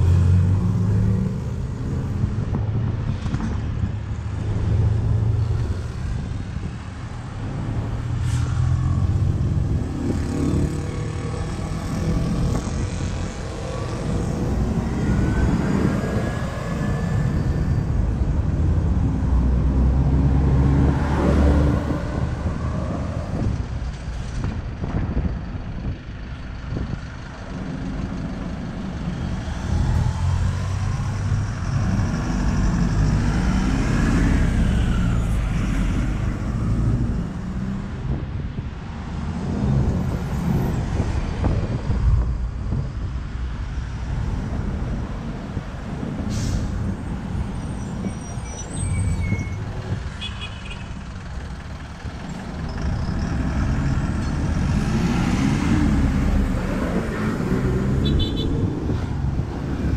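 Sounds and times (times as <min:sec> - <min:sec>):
bus diesel engines: 0:00.0 - 0:59.9
street traffic: 0:00.0 - 0:59.9.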